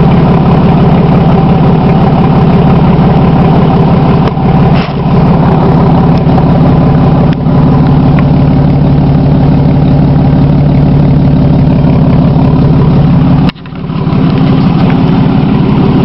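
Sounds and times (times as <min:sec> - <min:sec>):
loud exhaust idling: 0:00.0 - 0:16.0.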